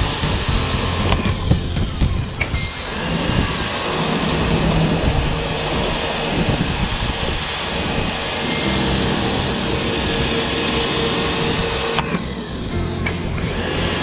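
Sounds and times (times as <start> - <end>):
pressure washer pump running: 2.6 - 14.0.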